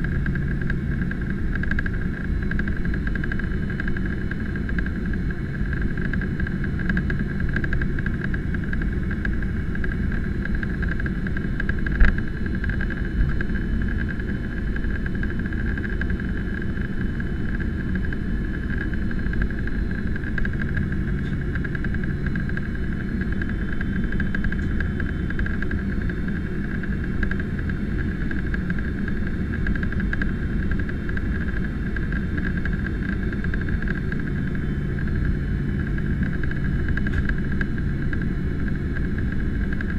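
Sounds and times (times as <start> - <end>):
airflow and jet engine rush: 0.0 - 39.9
high-pitched cabin hum: 0.0 - 39.9.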